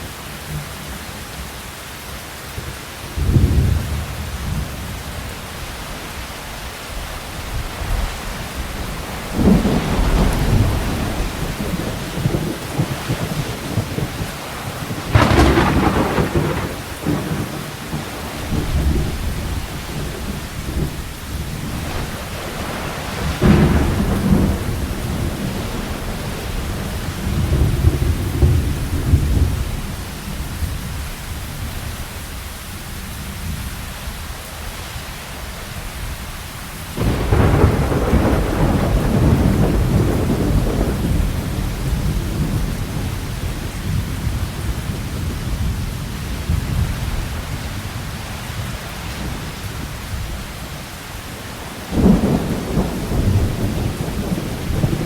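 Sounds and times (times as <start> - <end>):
steady rain: 0.0 - 55.0
rolling thunder: 3.2 - 6.2, 6.9 - 32.0, 36.9 - 55.0.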